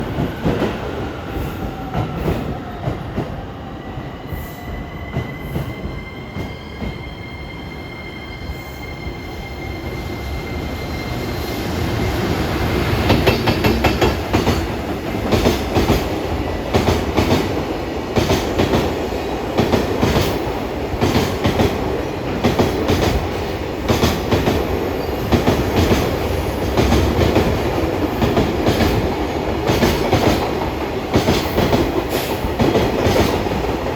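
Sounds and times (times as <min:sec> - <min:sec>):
high whine of locomotive: 0:00.0 - 0:33.9.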